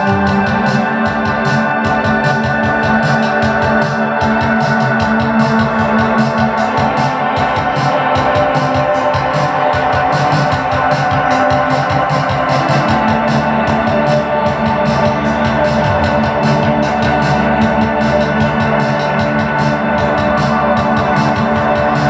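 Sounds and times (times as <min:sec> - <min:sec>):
electronic drone music: 0:00.0 - 0:22.0.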